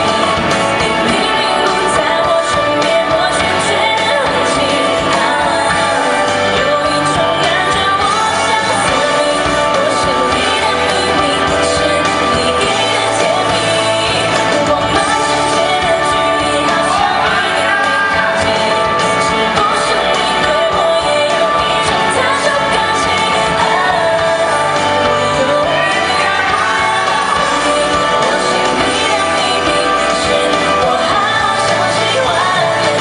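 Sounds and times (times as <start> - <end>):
instrumental accompaniment: 0.0 - 33.0
person singing pop song: 0.0 - 33.0.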